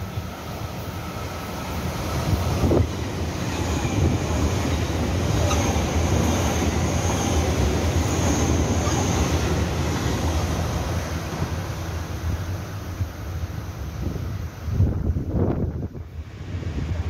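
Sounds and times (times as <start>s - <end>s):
electric train passing at speed: 0.0s - 17.0s.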